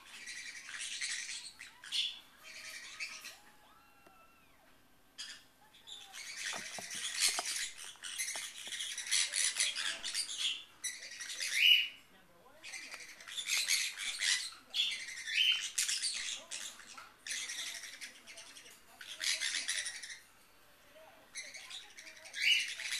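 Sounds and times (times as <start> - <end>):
parrot squawking: 0.0 - 4.6, 5.2 - 12.0, 12.6 - 20.3, 21.3 - 22.9.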